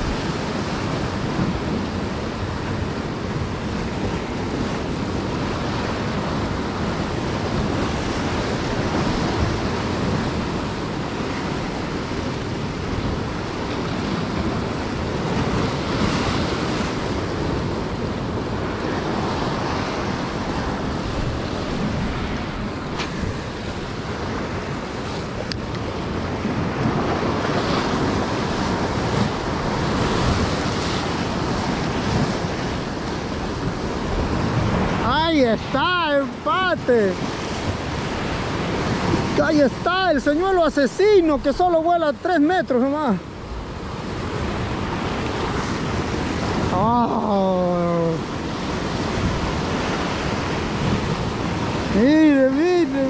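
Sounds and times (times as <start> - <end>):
sea surf washing: 0.0 - 53.0
wind buffeting microphone: 0.0 - 53.0.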